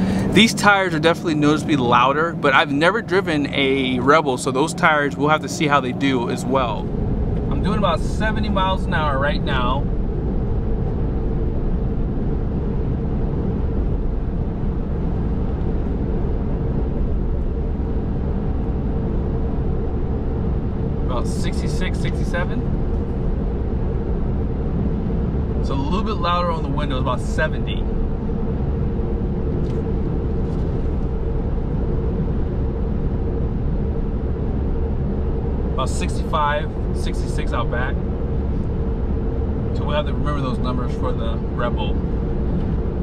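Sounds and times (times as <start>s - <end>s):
faint tire hum: 0.0s - 43.0s
loud tyre noise: 0.0s - 43.0s
truck cab road noise rumble: 0.0s - 43.0s.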